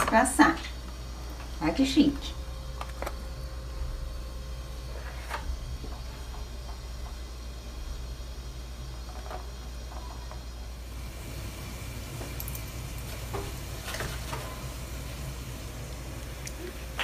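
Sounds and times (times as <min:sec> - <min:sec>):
steady hiss: 0:00.1 - 0:17.0.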